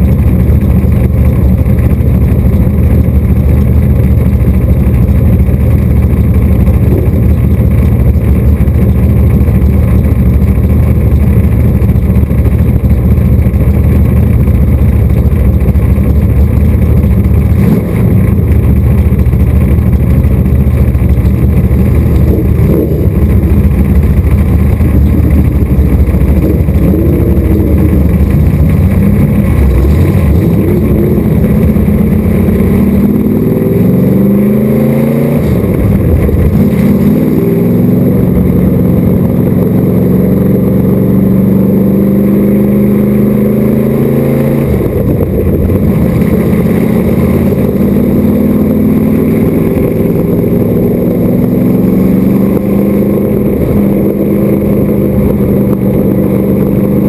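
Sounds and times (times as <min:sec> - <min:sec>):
race car engine idling and revving: 0:00.0 - 0:57.0.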